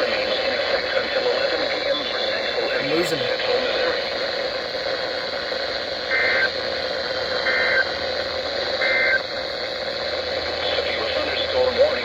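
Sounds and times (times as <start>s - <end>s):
radio hiss: 0.0s - 12.0s.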